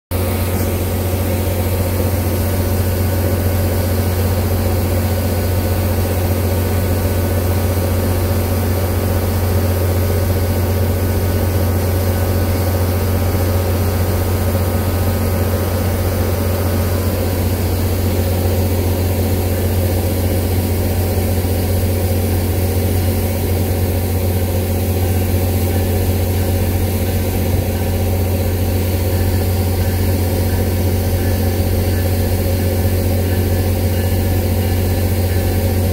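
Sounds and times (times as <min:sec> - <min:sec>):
diesel locomotive low drone: 0:00.1 - 0:35.9
high-pitched engine whine: 0:00.1 - 0:35.9.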